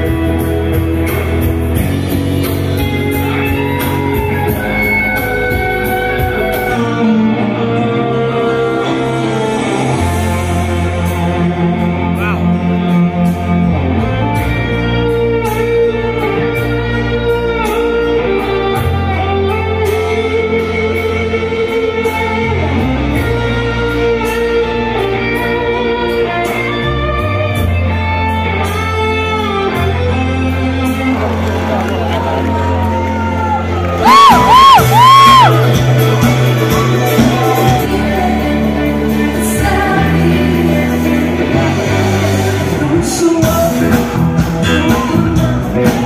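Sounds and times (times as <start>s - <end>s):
bass line: 0.0s - 46.0s.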